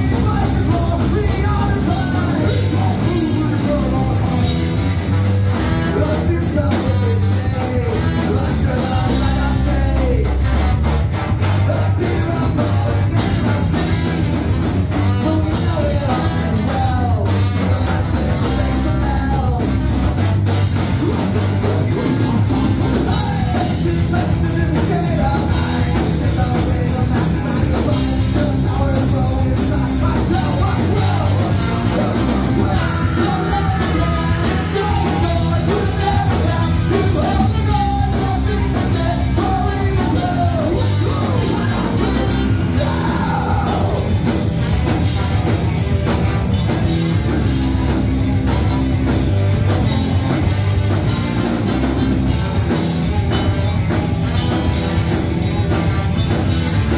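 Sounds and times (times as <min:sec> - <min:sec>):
person singing: 0:00.0 - 0:10.8, 0:11.4 - 0:56.9
live rock band playing: 0:00.0 - 0:56.9.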